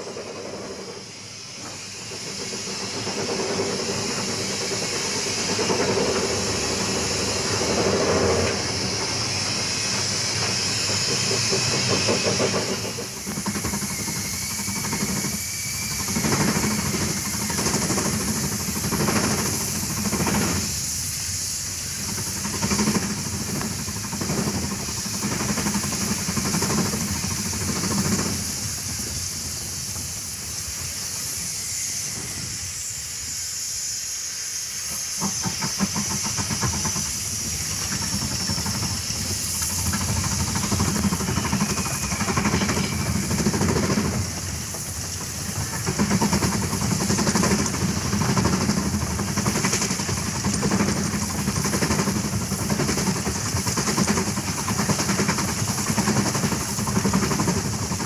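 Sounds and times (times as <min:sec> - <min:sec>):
steam hissing with hum: 0:00.0 - 0:58.0.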